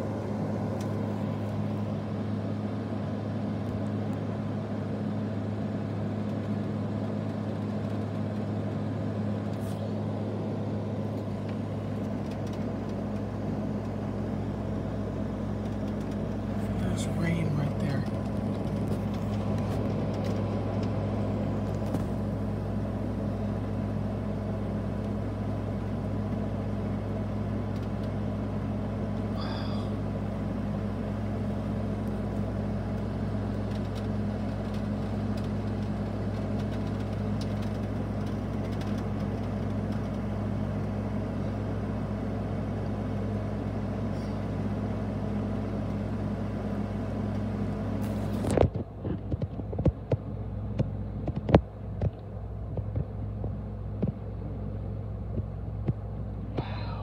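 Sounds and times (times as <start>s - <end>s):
constant low hum: 0.0s - 57.0s.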